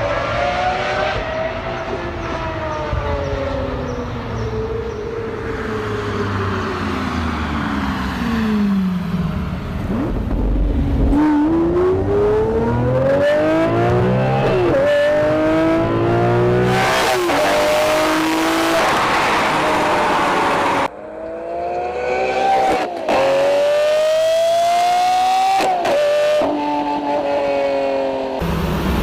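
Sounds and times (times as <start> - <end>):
sports car engine accelerating: 0.0 - 29.0.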